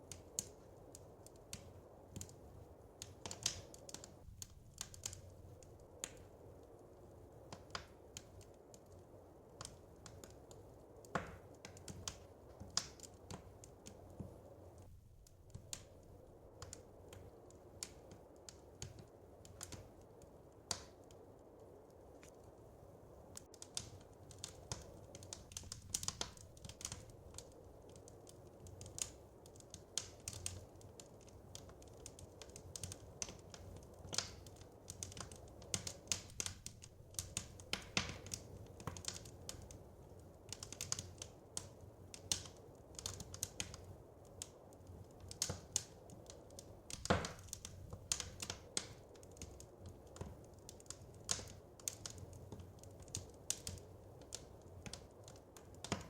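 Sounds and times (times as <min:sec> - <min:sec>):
soft low background hiss: 0:00.0 - 0:56.0
wood fire crackling: 0:00.0 - 0:56.0.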